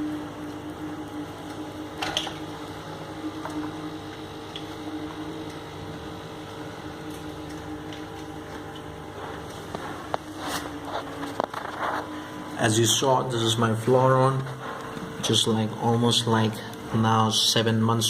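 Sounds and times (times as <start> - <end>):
aquarium pump humming: 0.0 - 18.0.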